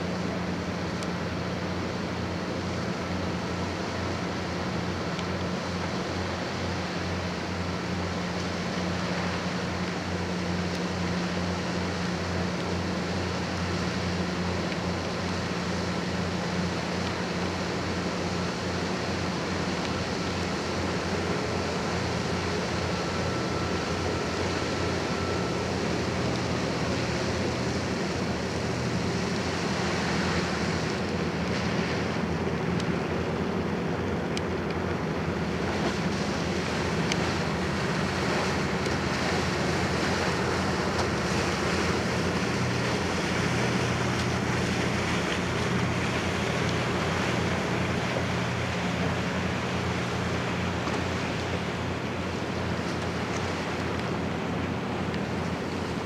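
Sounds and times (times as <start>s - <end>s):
ship machinery humming: 0.0s - 56.0s
wind and water rushing: 0.0s - 56.0s.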